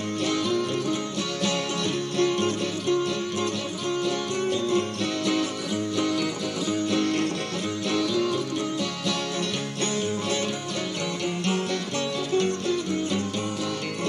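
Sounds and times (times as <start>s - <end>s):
guitar accompaniment: 0.0s - 14.0s
plucked dulcimer melody: 0.0s - 14.0s.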